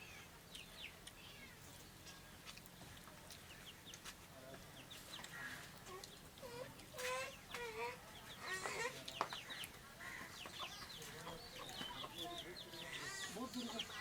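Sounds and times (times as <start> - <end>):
chickens clucking: 1.9 - 14.0.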